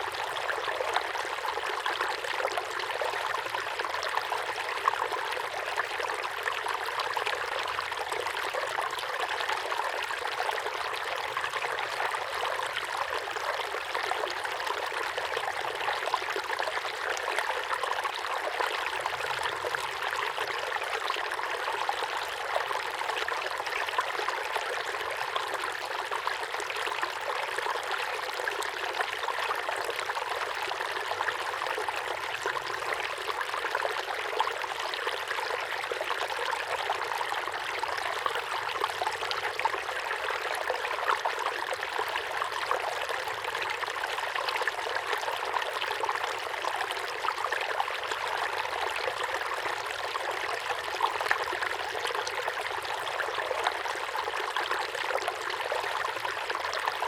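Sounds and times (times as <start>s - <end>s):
waterfall pouring into pond: 0.0s - 57.0s.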